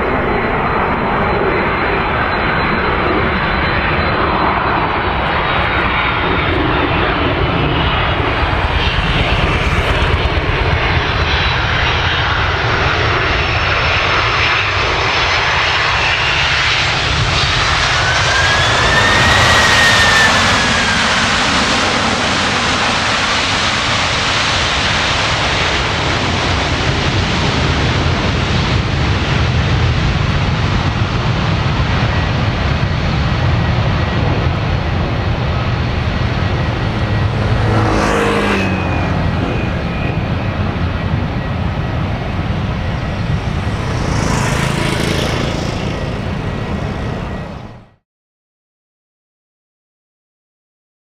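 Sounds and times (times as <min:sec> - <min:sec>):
jet engines roaring on runway: 0:00.0 - 0:48.0.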